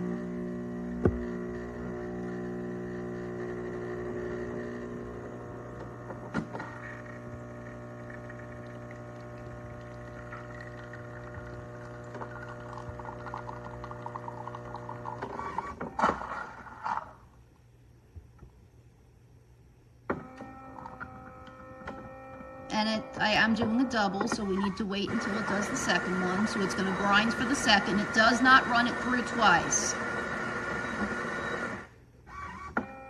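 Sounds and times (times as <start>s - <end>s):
coffee machine humming: 0.0s - 17.2s, 20.1s - 33.0s.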